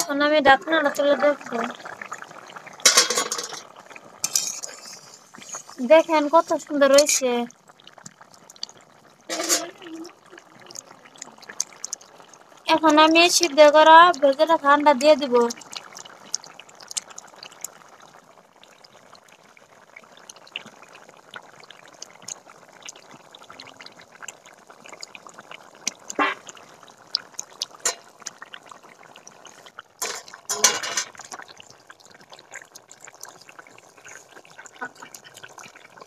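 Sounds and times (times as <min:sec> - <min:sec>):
curry simmering and bubbling: 0:00.0 - 0:36.0.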